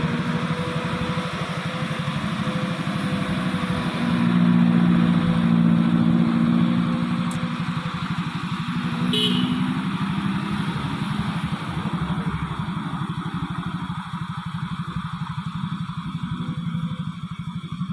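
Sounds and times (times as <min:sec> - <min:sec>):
diesel truck engine chugging: 0:00.0 - 0:17.9.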